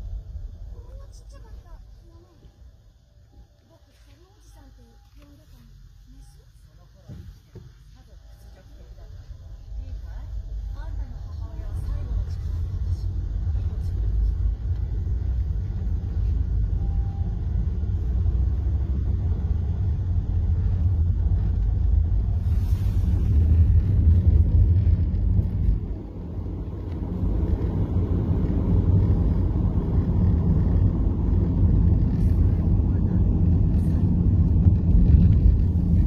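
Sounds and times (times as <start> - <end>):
car cabin road and engine rumble: 0.0 - 36.0.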